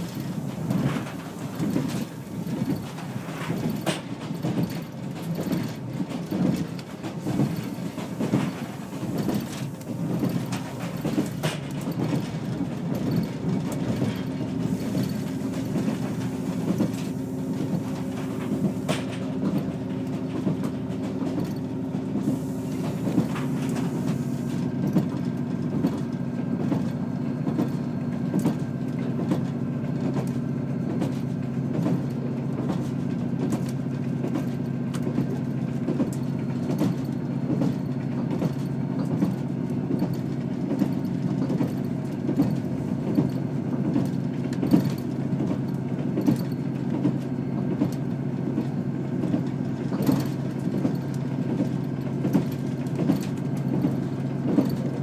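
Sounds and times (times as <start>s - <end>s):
train running gear rumble: 0.0s - 55.0s
wheels clicking on track: 0.0s - 55.0s.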